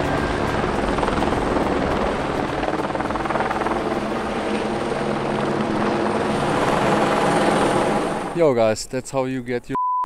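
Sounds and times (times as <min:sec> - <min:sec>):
helicopter rotor and engine: 0:00.0 - 0:08.5.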